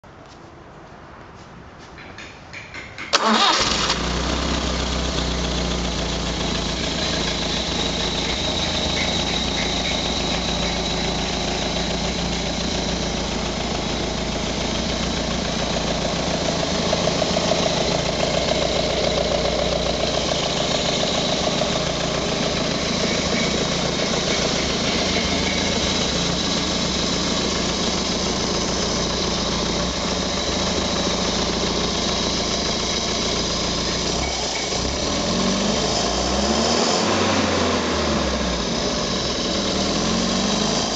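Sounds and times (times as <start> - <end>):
car engine idling: 3.1 - 40.9.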